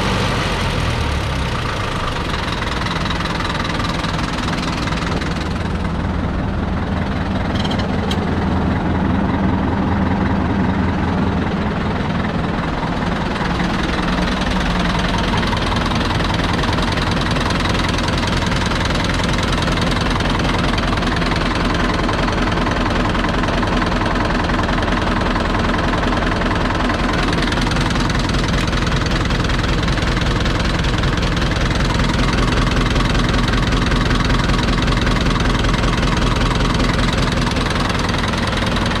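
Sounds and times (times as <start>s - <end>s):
tractor diesel engine knocking: 0.0s - 39.0s.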